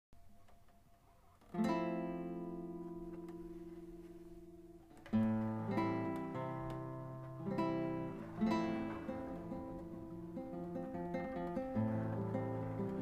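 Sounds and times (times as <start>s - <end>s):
acoustic guitar strummed and picked: 1.5s - 13.0s.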